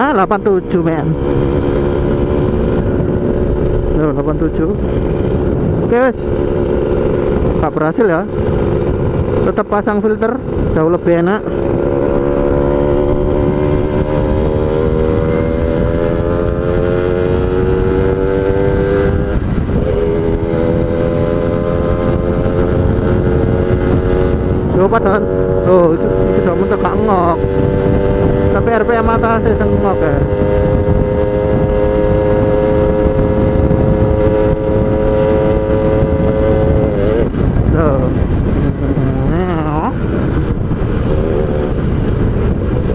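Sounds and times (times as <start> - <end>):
motorcycle engine at high revs: 0.0 - 42.9
wind and road noise: 0.0 - 42.9.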